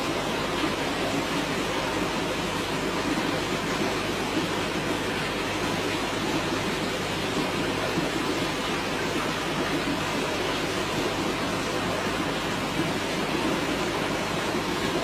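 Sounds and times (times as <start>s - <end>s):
aquarium air stones bubbling: 0.0s - 15.0s.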